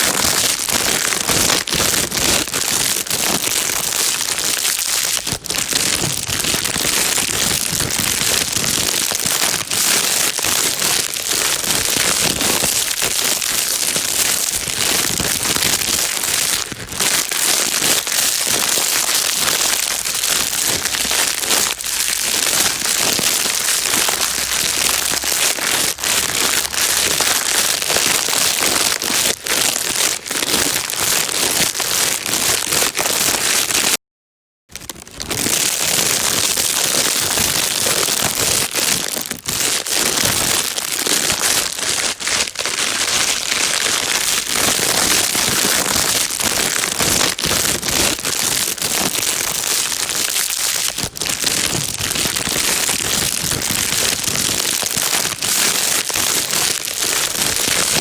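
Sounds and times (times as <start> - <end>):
plastic bag crinkling: 0.0 - 34.0, 34.7 - 58.0.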